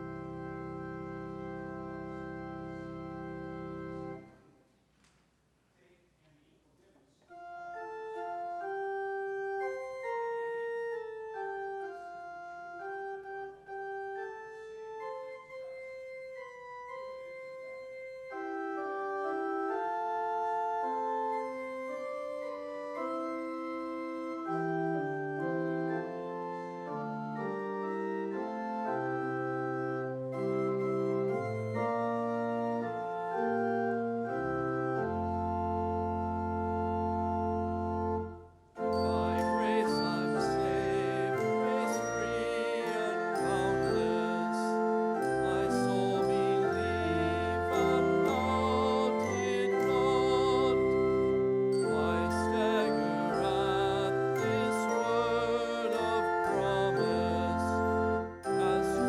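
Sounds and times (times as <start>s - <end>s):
organ bass pedal notes: 0.0s - 4.4s, 7.4s - 59.0s
church organ playing: 0.0s - 4.5s, 7.3s - 59.0s.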